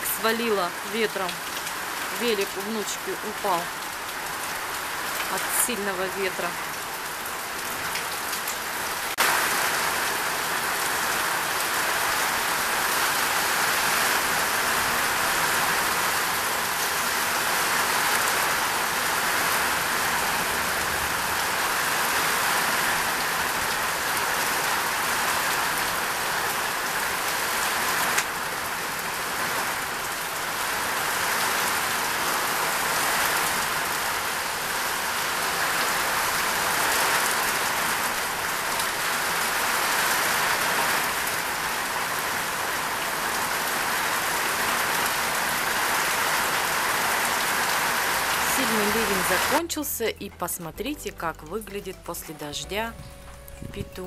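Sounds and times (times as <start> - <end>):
heavy rain pouring: 0.0 - 50.2.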